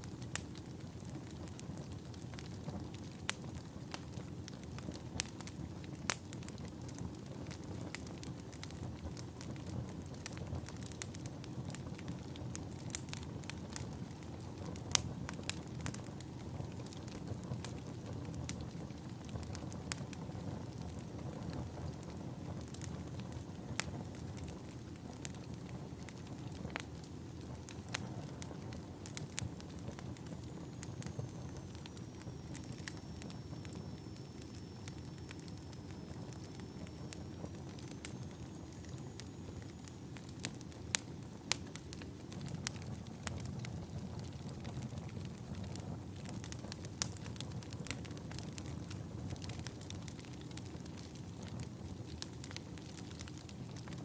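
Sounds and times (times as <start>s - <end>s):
log fire crackling and popping: 0.0s - 54.0s
low rumble of flames: 0.0s - 54.0s.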